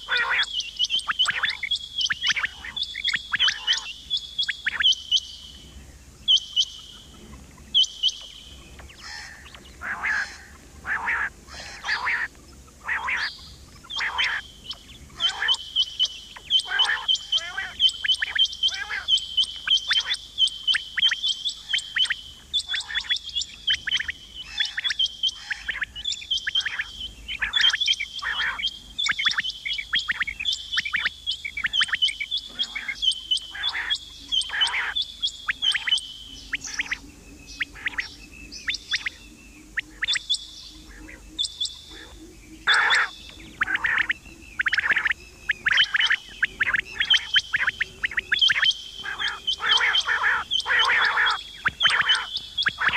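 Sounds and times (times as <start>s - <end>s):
quail chirping calls: 0.0s - 52.9s.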